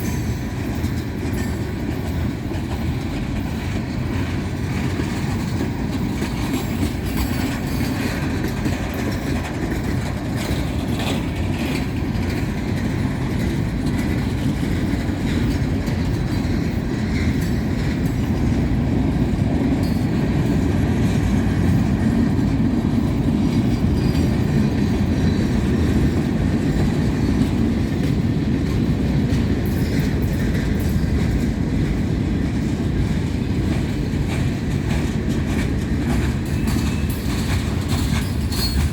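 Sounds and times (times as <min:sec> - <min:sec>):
faint rail joint clicks: 0:00.0 - 0:38.9
train wheels rumbling on rail: 0:00.0 - 0:38.9.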